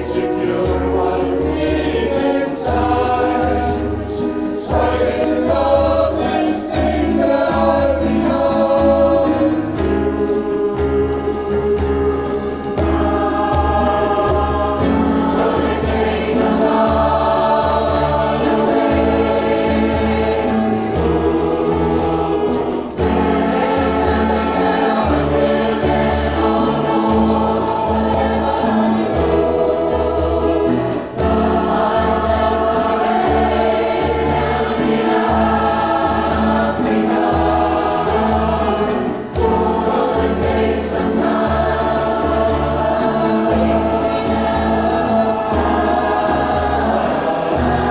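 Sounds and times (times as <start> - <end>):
choir singing in harmony: 0.0 - 47.9
steady rhythmic beat: 0.0 - 47.9.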